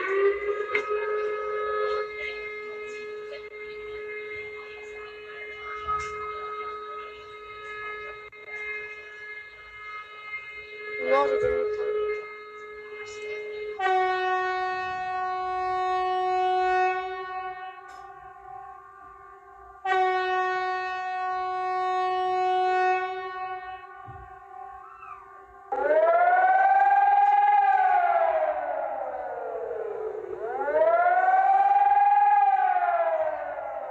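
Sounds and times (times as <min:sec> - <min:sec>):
civil defence siren wailing: 0:00.0 - 0:33.9.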